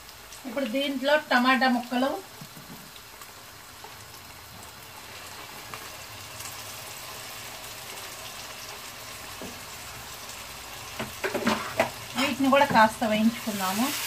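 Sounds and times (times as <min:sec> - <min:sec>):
oil sizzling in a pan: 0:00.0 - 0:14.0.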